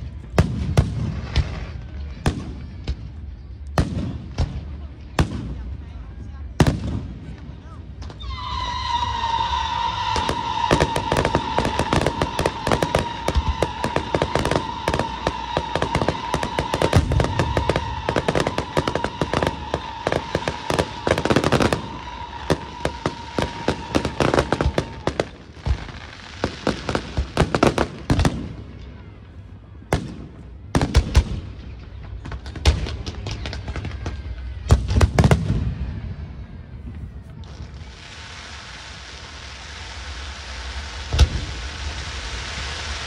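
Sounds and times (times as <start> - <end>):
firework bangs: 0.0 - 5.9, 6.6 - 43.0
fireworks crackling: 0.0 - 43.0.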